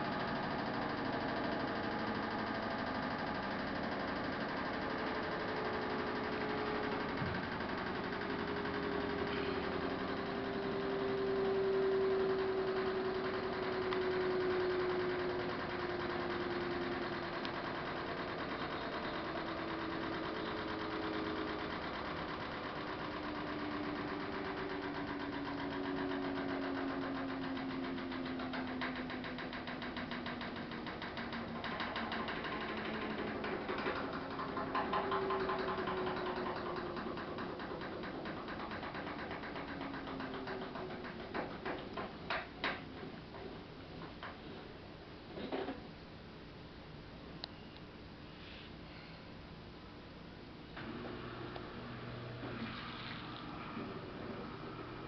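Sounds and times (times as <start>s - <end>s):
washing machine rattle: 0.0s - 45.9s, 50.8s - 55.0s
washing machine humming: 0.0s - 55.0s.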